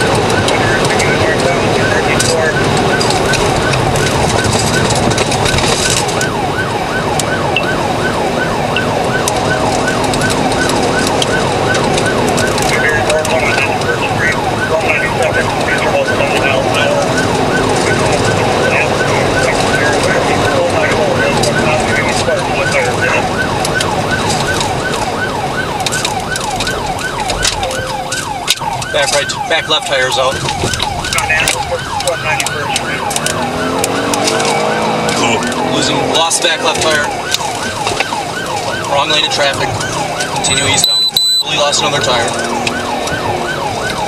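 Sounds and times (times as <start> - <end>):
car road noise: 0.0 - 44.0
police siren yelping: 0.0 - 44.0.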